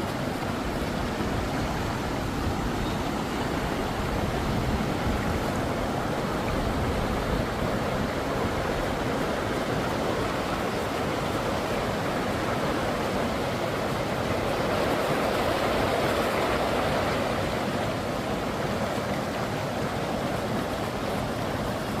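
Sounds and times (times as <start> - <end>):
river rushing over rapids: 0.0 - 22.0.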